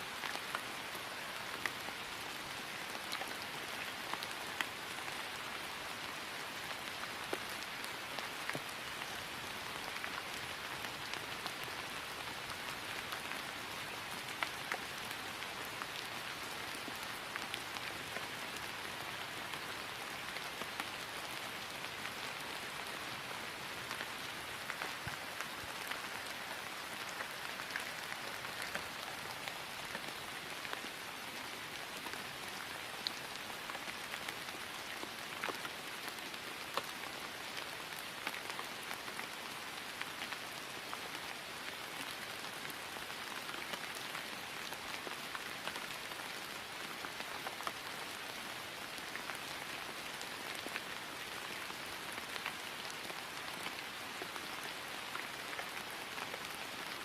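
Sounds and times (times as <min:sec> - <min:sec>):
rain falling on grass: 0:00.0 - 0:57.0.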